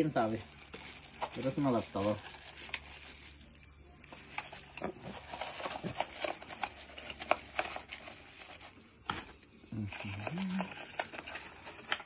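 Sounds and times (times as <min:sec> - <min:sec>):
cardboard package being opened: 0:00.0 - 0:12.0.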